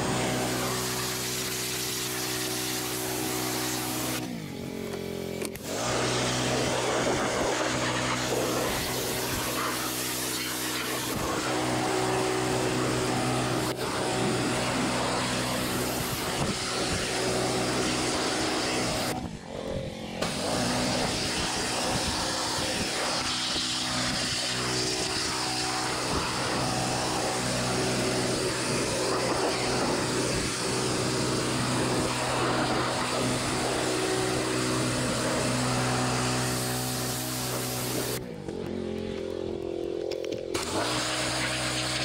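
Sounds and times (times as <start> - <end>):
water jet hissing on floor: 0.0 - 4.3, 5.6 - 19.2, 20.2 - 38.2, 40.6 - 42.0
pressure washer motor hum: 0.0 - 42.0.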